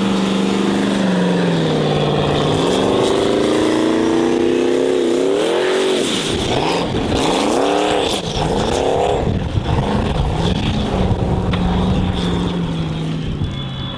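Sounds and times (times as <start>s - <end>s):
race car engine revving hard: 0.0s - 13.3s.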